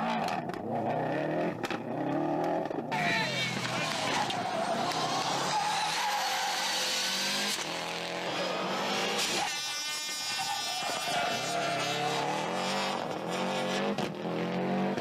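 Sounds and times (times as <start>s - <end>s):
rally car engine under load: 0.0s - 15.0s.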